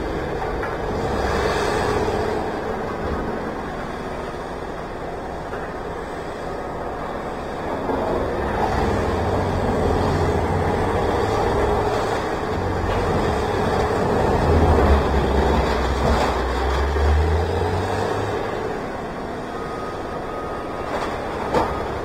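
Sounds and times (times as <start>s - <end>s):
heavy engine rumble: 0.0s - 22.0s.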